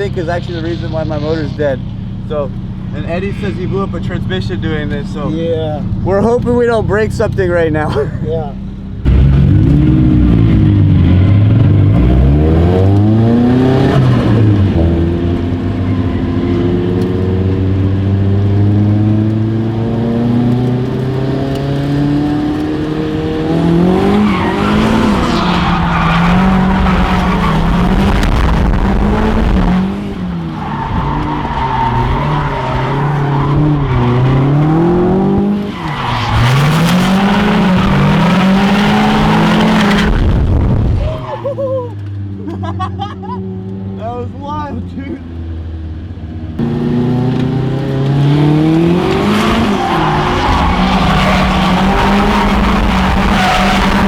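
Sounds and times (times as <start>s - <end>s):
tires squealing: 0.0s - 7.9s, 10.5s - 17.0s, 20.3s - 42.0s, 46.6s - 54.0s
car engine revving: 0.0s - 41.2s, 45.6s - 54.0s.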